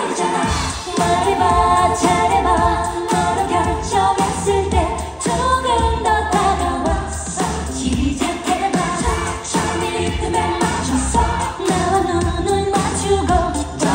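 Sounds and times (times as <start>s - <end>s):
woman singing into a microphone: 0.0s - 13.9s
amplified band with bass and drums: 0.4s - 13.9s.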